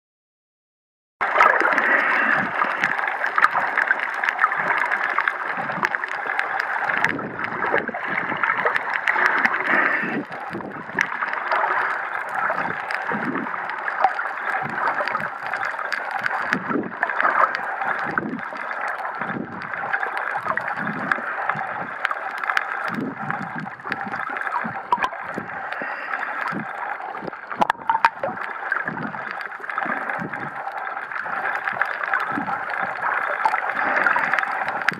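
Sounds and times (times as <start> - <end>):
underwater gurgling and sloshing: 1.2 - 34.9.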